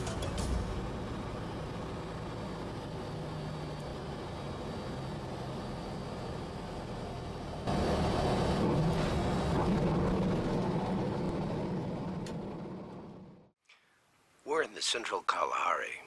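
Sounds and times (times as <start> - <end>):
propeller aircraft engine drone: 0.0 - 13.6.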